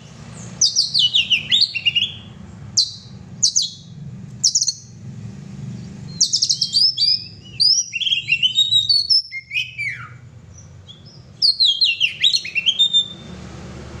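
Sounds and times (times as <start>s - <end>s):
bird singing whistles and chirps: 0.0s - 5.0s, 6.0s - 13.4s.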